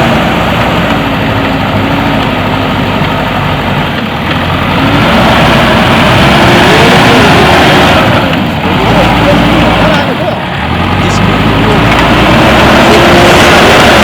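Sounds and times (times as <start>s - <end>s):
diesel engine running loudly: 0.0s - 14.0s.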